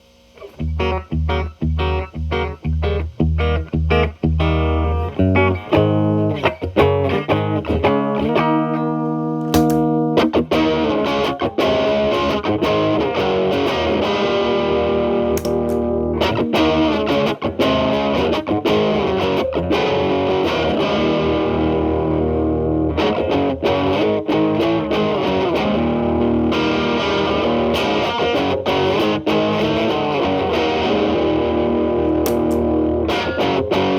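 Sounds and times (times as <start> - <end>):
clean electric guitar chords: 0.0 - 33.9
distorted electric guitar: 0.0 - 33.9.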